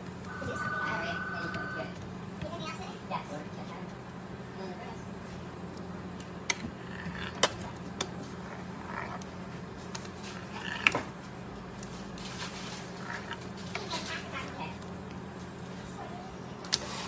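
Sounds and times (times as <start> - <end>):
kitchen equipment humming: 0.0 - 17.0.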